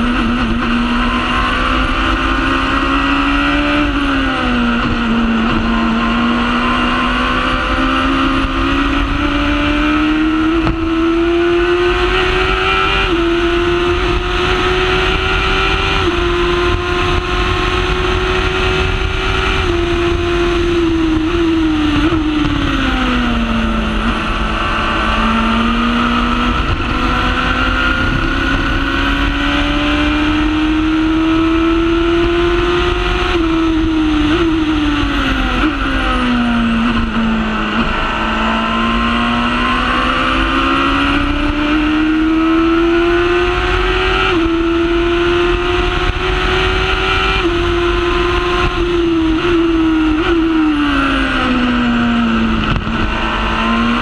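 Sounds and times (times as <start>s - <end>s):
racing car engine at full throttle: 0.0s - 54.0s
wind and road noise: 0.0s - 54.0s.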